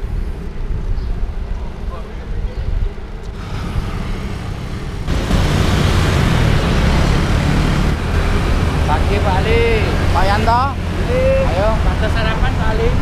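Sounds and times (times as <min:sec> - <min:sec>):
motorcycle traffic: 0:00.0 - 0:13.0
road noise: 0:00.0 - 0:13.0
wind rumble: 0:00.0 - 0:13.0.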